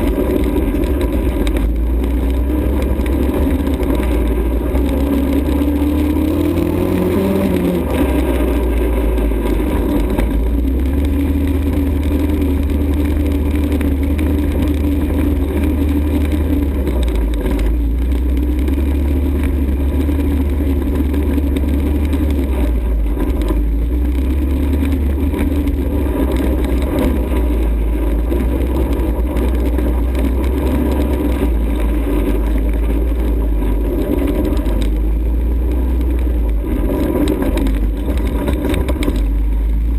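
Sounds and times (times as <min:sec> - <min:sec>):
atv engine running: 0:00.0 - 0:39.9
heavy low rumble: 0:00.0 - 0:39.9.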